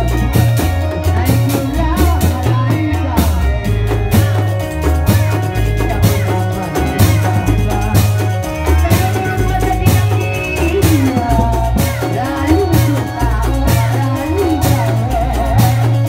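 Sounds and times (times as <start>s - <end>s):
procession music with drum beat: 0.0s - 16.0s.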